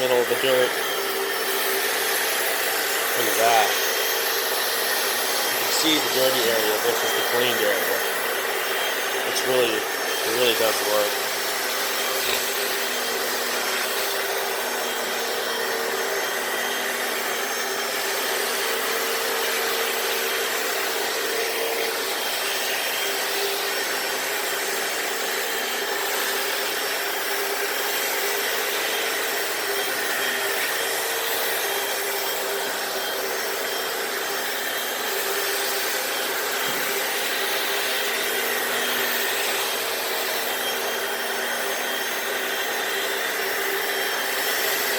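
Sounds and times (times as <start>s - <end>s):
brushes scrubbing concrete floor: 0.0s - 44.9s
floor cleaner motor whirring: 0.0s - 44.9s.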